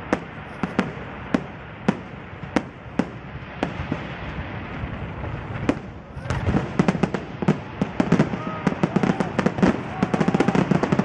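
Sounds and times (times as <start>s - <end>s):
background hiss: 0.0s - 11.0s
fireworks bangs: 0.0s - 11.0s.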